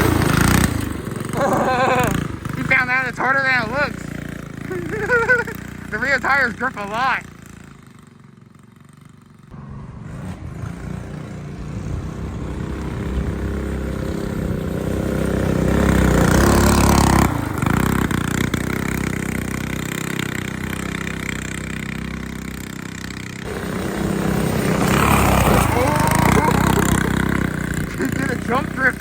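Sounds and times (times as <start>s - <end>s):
small engine revving: 0.0s - 29.0s.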